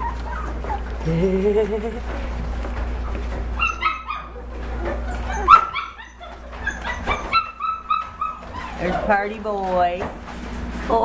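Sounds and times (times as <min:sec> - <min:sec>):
puppies whimpering: 0:00.0 - 0:09.8.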